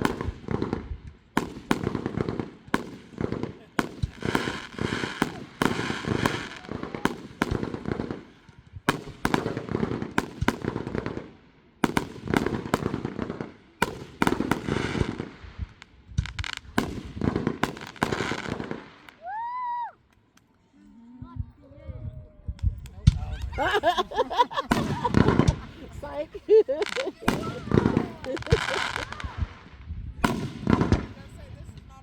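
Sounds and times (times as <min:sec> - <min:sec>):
fireworks cracking and popping: 0:00.0 - 0:20.5, 0:22.5 - 0:32.0.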